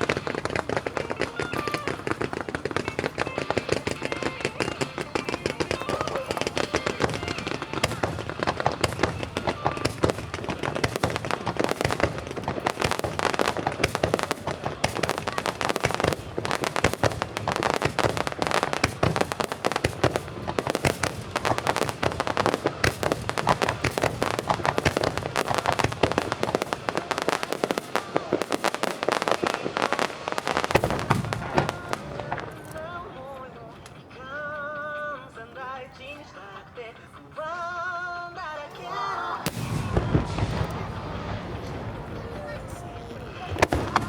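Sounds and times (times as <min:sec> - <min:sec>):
fireworks bursting and crackling: 0:00.0 - 0:37.0, 0:38.9 - 0:44.0.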